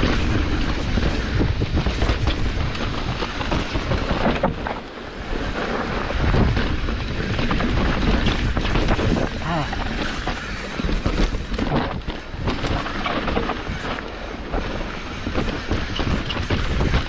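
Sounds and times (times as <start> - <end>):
mountain bike rattling on trail: 0.0 - 17.0
wind rushing over microphone: 0.0 - 17.0.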